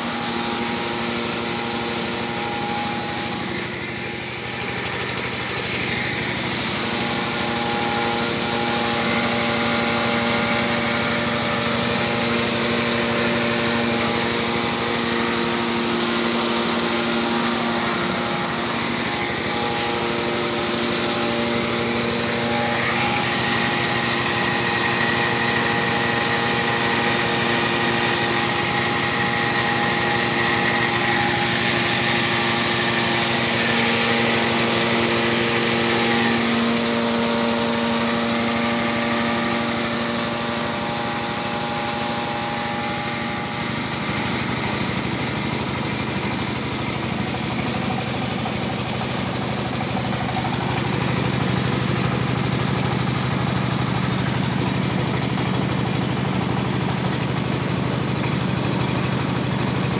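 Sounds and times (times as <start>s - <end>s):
corn cracking machine humming: 0.0s - 59.9s
high steady whine: 0.0s - 59.9s.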